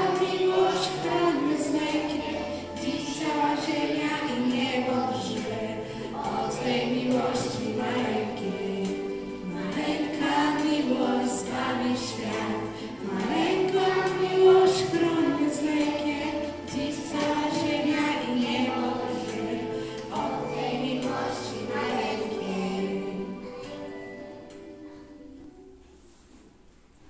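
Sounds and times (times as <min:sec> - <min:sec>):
young children singing: 0:00.0 - 0:26.2
musical accompaniment: 0:00.0 - 0:27.0.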